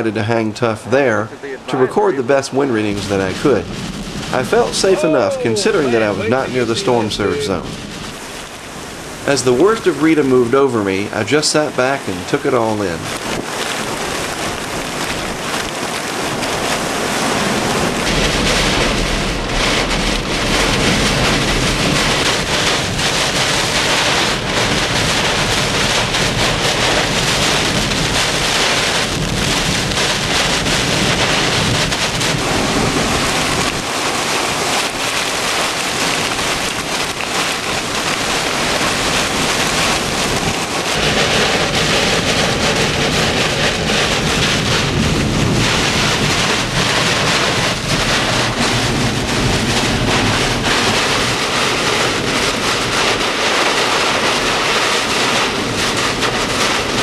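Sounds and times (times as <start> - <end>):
wind and rain beating on vehicle: 0.0 - 57.0.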